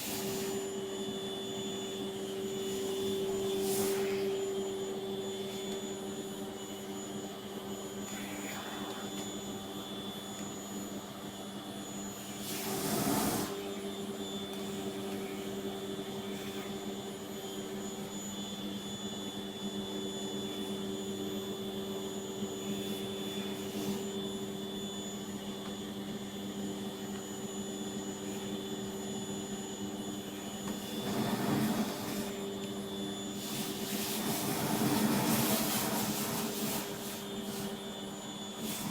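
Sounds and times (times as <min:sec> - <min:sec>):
vacuum cleaner motor droning: 0:00.0 - 0:38.9.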